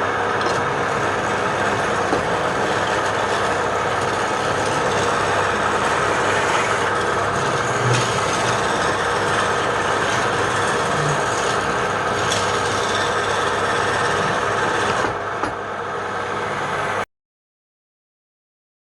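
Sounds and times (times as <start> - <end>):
machine hum: 0.0 - 17.1
power tool rasping wood: 0.4 - 17.0.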